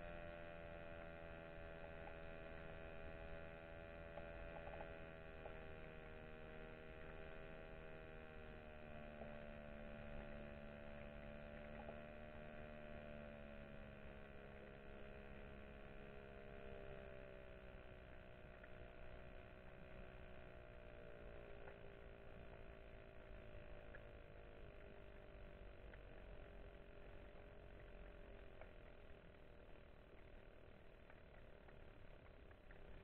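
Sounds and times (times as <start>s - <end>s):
faint ticks: 0.0s - 33.0s
faint underwater hum: 0.0s - 33.0s.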